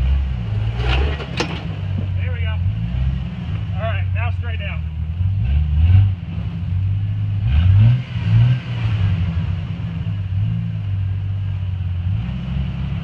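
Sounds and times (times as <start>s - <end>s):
engine revving: 0.0s - 13.0s
engine running low: 0.0s - 13.0s.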